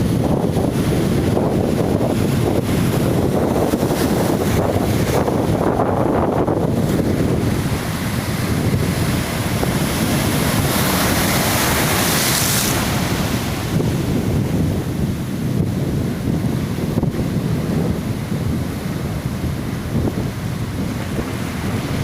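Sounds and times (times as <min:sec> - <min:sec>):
surf breaking on shore: 0:00.0 - 0:22.0
wind buffeting microphone: 0:00.0 - 0:22.0.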